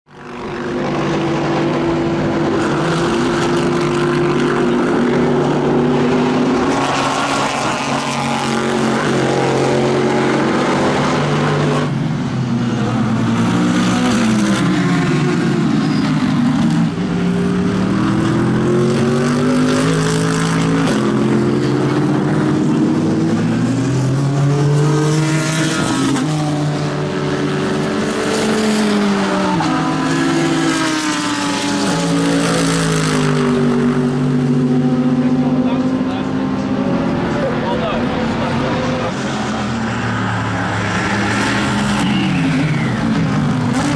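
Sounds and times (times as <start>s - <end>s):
race car engines passing: 0.1s - 43.9s.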